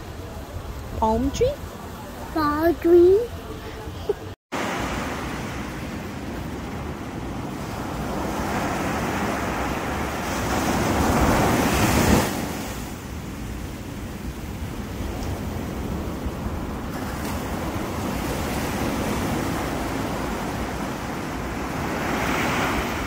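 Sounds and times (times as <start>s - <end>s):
ocean surf washing on beach: 0.0s - 23.0s.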